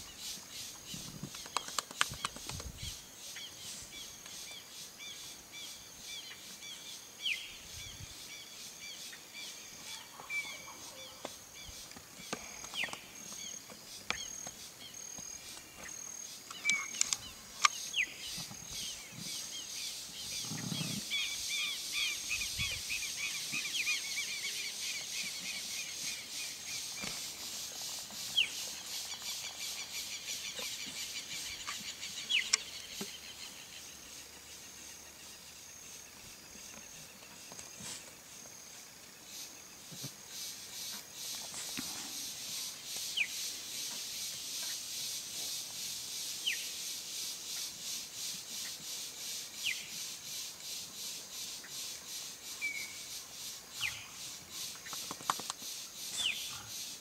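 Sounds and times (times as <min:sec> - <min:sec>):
pulsing insect chorus: 0:00.0 - 0:57.0.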